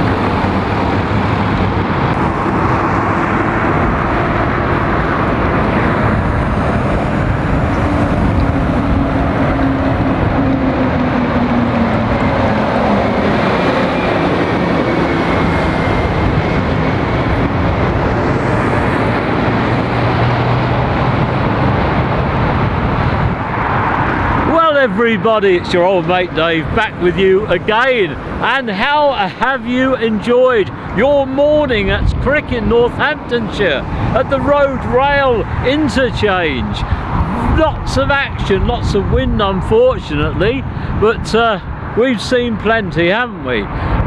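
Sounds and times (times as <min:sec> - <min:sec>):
wind on microphone: 0:00.0 - 0:24.5, 0:30.7 - 0:42.0, 0:43.6 - 0:44.0
trucks driving by: 0:00.0 - 0:44.0.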